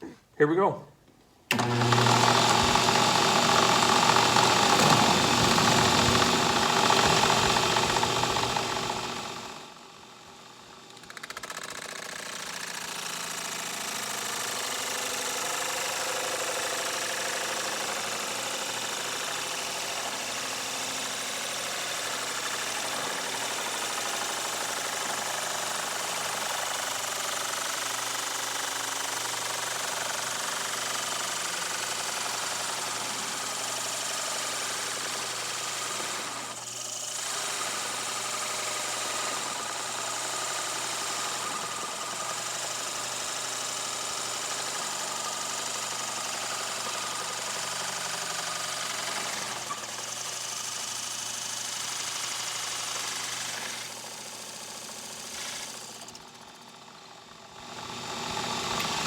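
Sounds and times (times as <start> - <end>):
drill press cutting wood: 1.5 - 59.0.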